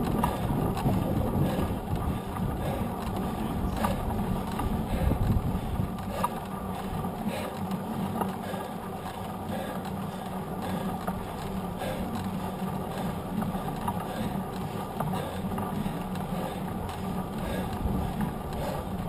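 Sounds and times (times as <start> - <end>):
bike tyre rolling on asphalt: 0.0 - 19.0
faint ticks: 0.0 - 19.0.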